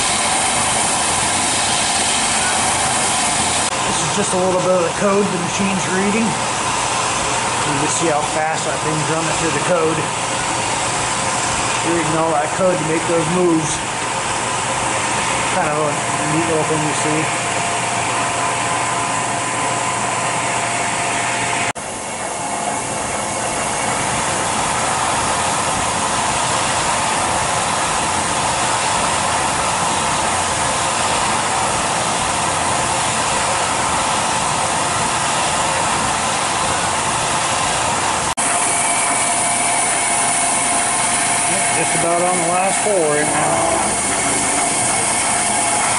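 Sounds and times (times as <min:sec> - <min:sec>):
cnc mill spindle whirring: 0:00.0 - 0:45.9.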